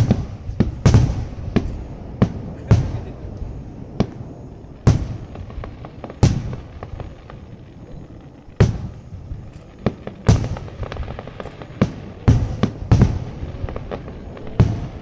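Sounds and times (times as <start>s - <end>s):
firework shells booming: 0.0s - 15.0s
light firework cracks: 0.0s - 15.0s.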